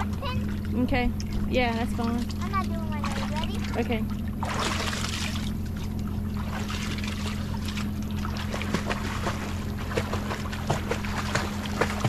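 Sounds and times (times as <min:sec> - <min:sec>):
low motor hum: 0:00.0 - 0:12.0
water splashing and sloshing: 0:00.0 - 0:12.0.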